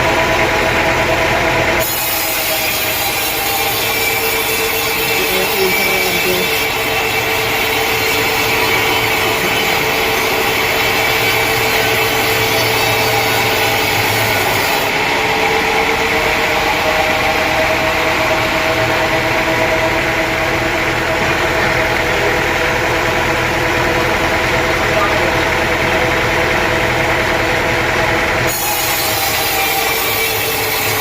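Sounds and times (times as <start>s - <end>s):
saw whining tone: 0.0s - 31.0s
sawmill machinery drone: 0.0s - 31.0s.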